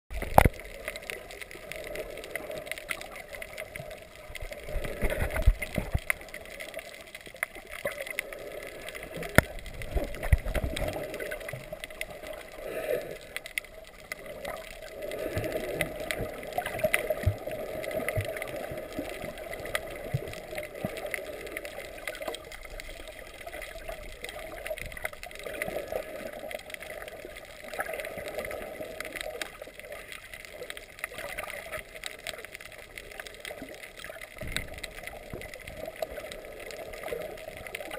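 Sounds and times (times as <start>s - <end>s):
muffled underwater sloshing: 0.1s - 37.9s.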